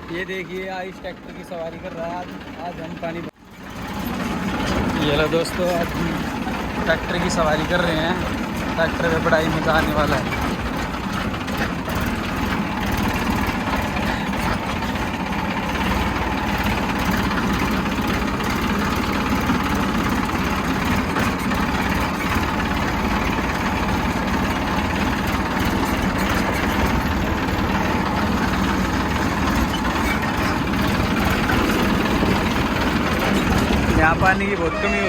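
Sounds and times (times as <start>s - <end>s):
tractor engine rumbling: 0.0s - 35.0s.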